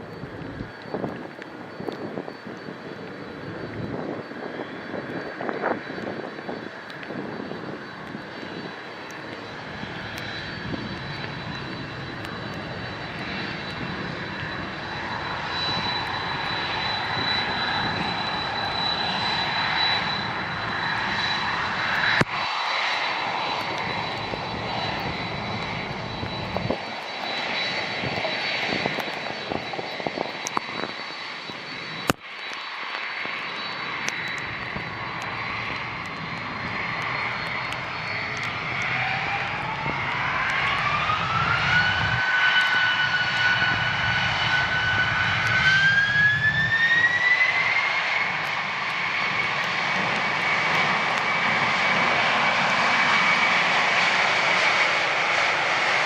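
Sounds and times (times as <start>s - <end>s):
wind buffeting microphone: 0.0s - 22.5s, 23.1s - 32.1s, 33.2s - 47.3s
jet airliner engines roaring: 0.0s - 56.0s.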